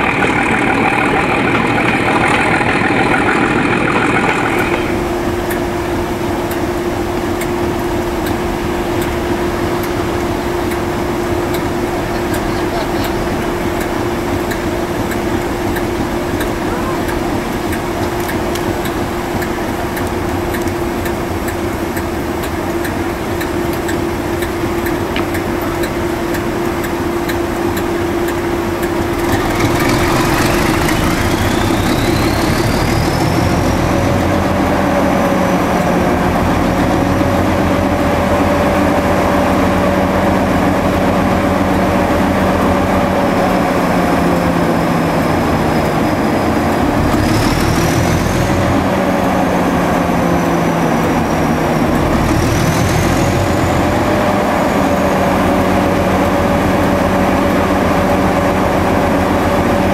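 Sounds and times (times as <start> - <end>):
diesel locomotive engine revving: 0.0 - 59.9
turbocharger whine: 0.0 - 59.9.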